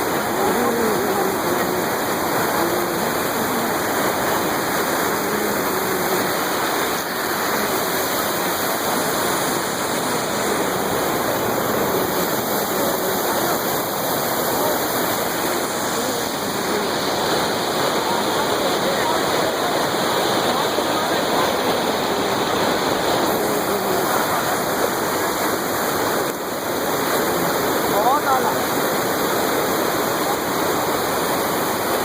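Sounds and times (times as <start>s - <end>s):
fast-flowing water rushing: 0.0s - 32.0s.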